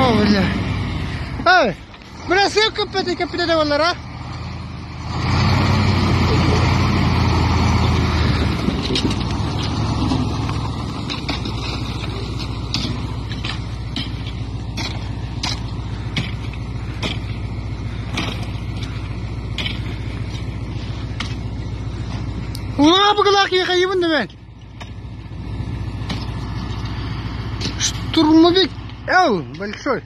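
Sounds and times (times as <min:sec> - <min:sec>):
diesel truck engine: 0:00.0 - 0:30.0.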